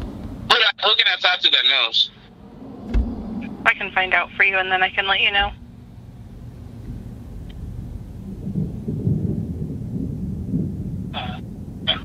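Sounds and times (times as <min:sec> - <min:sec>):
thunder rumbling: 0:02.2 - 0:12.0.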